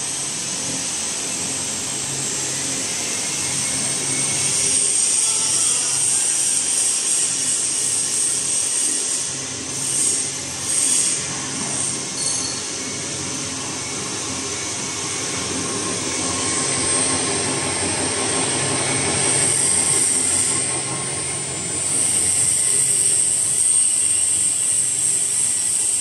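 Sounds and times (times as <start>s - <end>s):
pump motor humming and whining: 0.0s - 26.0s.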